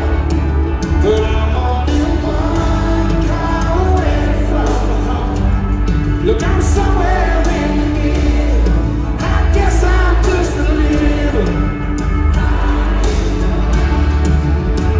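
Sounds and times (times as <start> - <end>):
man singing: 0.0 - 13.7
live band playing: 0.0 - 14.9.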